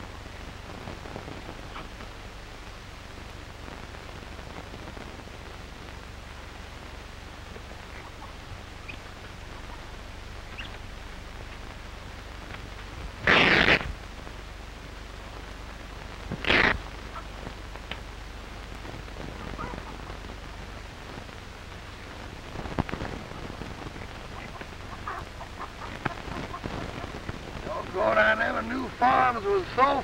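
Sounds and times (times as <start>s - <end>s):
film soundtrack hiss: 0.0s - 30.0s.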